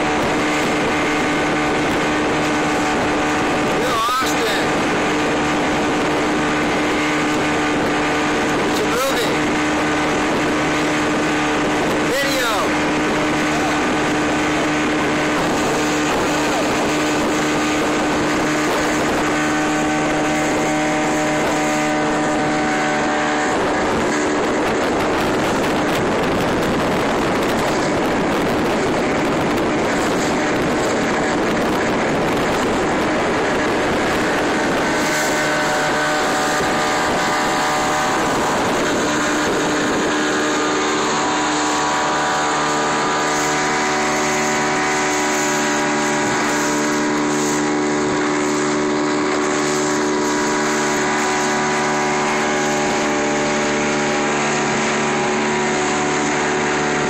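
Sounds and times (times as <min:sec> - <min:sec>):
outboard motor running: 0:00.0 - 0:57.0
wind and water rushing: 0:00.0 - 0:57.0.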